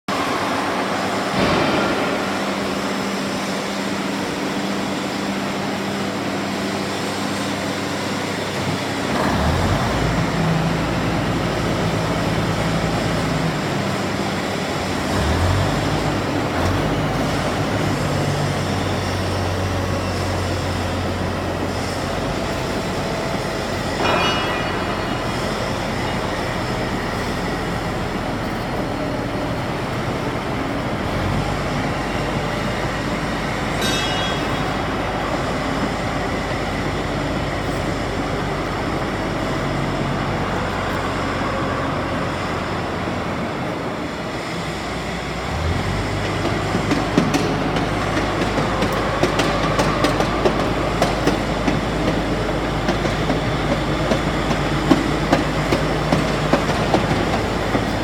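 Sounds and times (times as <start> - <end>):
bulldozer diesel engine running: 0.1 - 58.0
metallic clanks of steel tracks: 0.1 - 58.0.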